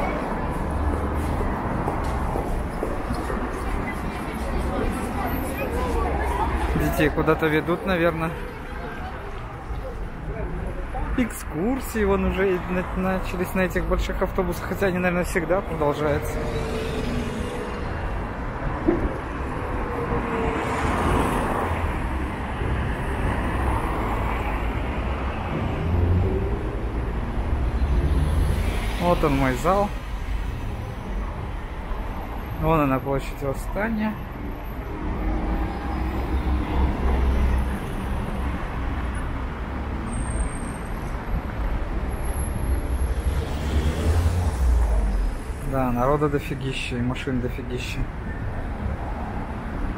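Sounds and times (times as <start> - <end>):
traffic rumbling past: 0.0 - 49.9.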